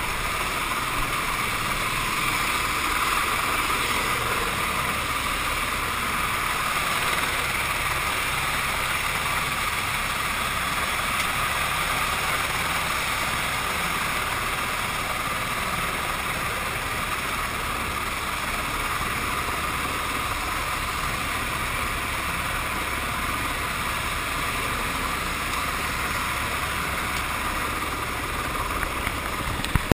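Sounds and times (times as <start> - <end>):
helicopter engine and rotor drone: 0.0 - 29.9.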